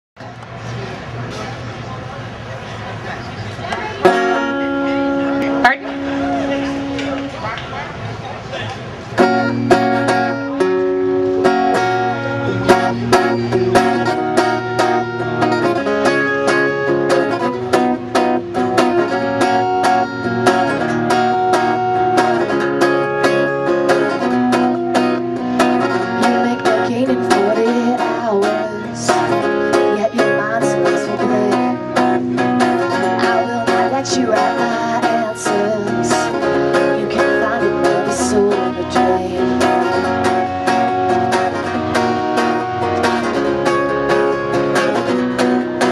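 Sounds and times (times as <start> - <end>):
live band with plucked strings: 0.2 - 45.9.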